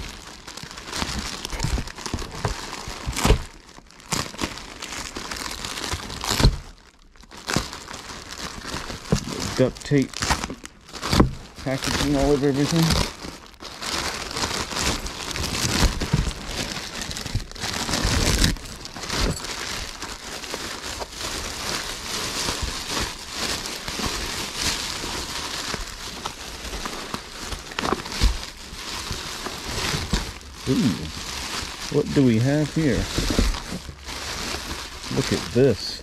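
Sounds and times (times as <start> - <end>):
plastic cracking and ripping: 0.0 - 36.0
plastic crinkling and rustling: 0.0 - 36.0.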